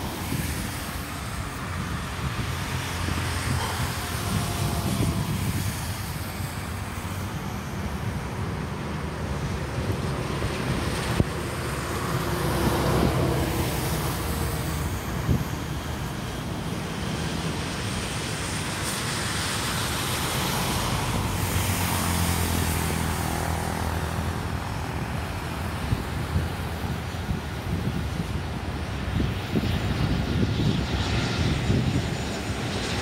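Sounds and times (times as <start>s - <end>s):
jet engines humming: 0.0s - 33.0s
wind noise on microphone: 0.0s - 33.0s.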